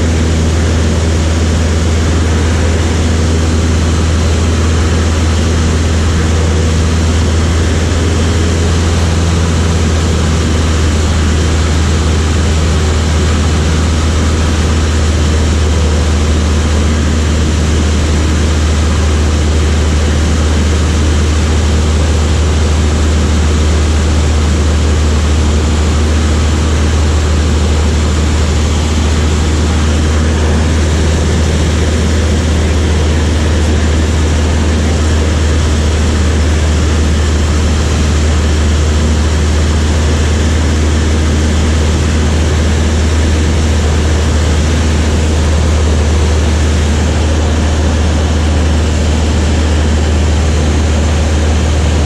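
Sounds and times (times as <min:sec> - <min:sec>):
propeller aircraft engine drone: 0:00.0 - 0:52.0.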